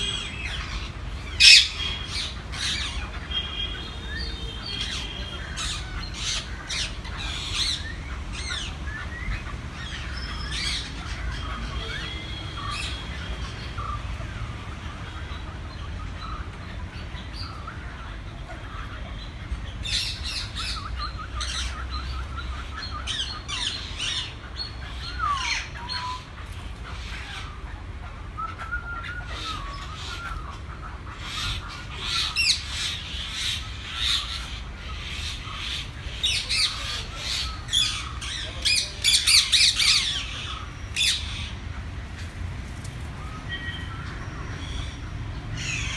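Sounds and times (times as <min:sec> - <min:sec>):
birds squawking and chirping: 0:00.0 - 0:45.9.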